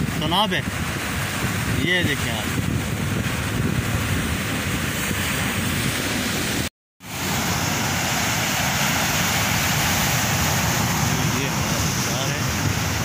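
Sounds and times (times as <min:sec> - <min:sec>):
surf breaking on rocks: 0:00.0 - 0:13.0
wind on microphone: 0:00.0 - 0:13.0.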